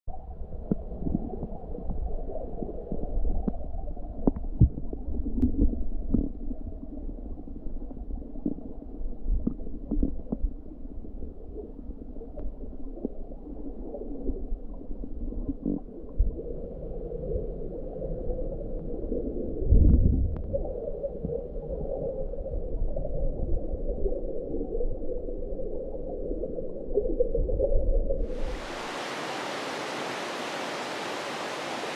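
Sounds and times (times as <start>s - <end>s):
muffled underwater river rumble: 0.1s - 31.9s.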